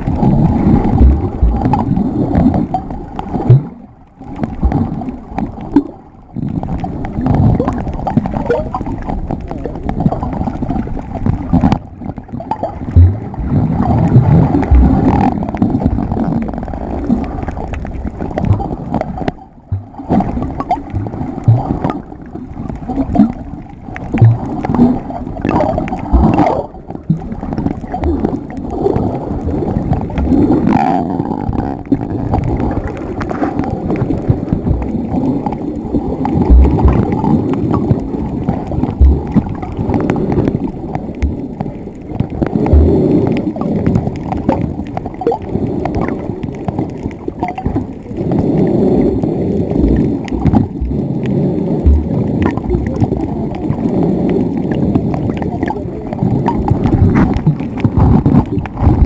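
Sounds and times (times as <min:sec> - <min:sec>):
underwater water rushing: 0:00.0 - 0:59.0.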